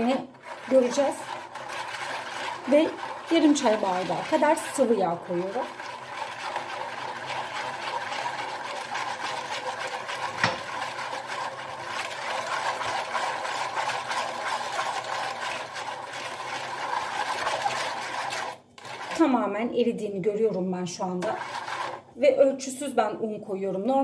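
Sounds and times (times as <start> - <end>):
hand whisk clattering: 0.0 - 19.3.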